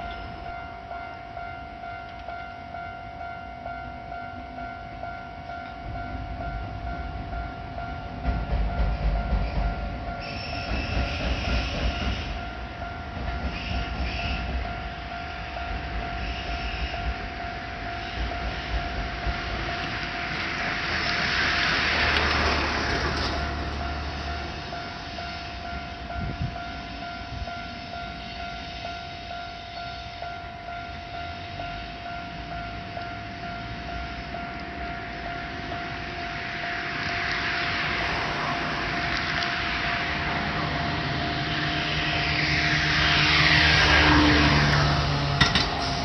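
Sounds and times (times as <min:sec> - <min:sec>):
train rumbling: 0:00.0 - 0:46.0.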